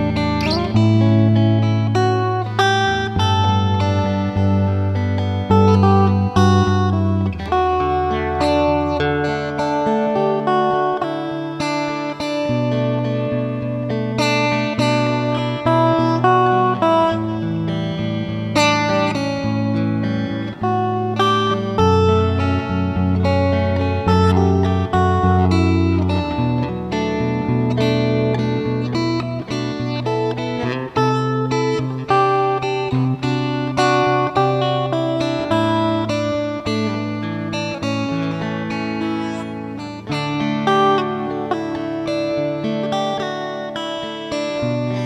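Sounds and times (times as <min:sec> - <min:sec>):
plucked guitar music: 0:00.0 - 0:45.0.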